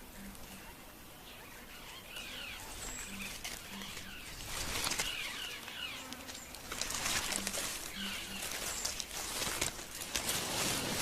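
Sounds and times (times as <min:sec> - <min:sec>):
branches and leaves rustling: 0:00.0 - 0:11.0.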